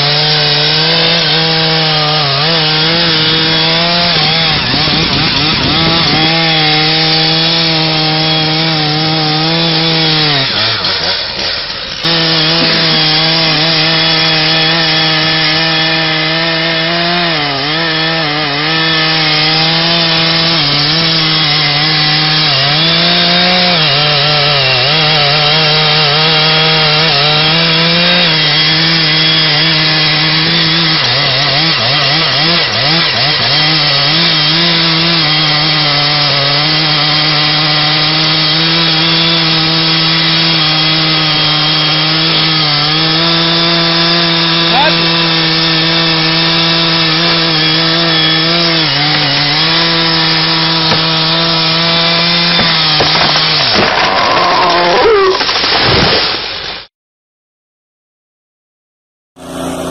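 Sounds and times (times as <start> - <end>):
chainsaw cutting a tree trunk: 0.0 - 56.9, 59.4 - 59.9.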